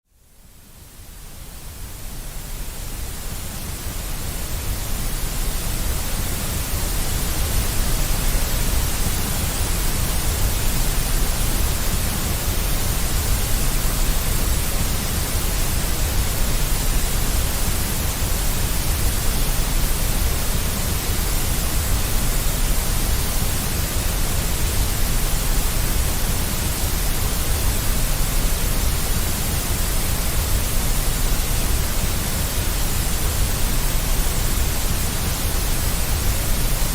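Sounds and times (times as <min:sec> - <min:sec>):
deep white noise hiss: 0:00.1 - 0:36.9.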